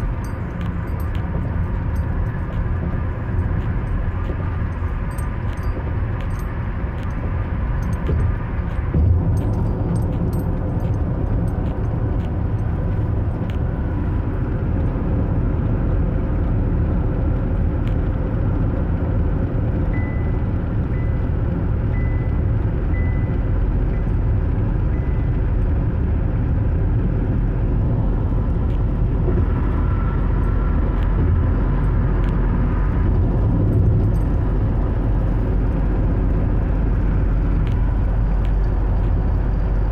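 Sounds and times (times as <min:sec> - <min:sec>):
car engine running: 0:00.0 - 0:39.9
tyres rumbling on road: 0:00.0 - 0:39.9.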